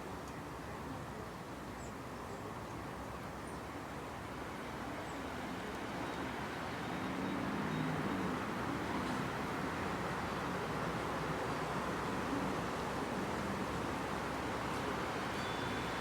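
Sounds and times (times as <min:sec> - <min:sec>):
outdoor background rush: 0:00.0 - 0:16.0.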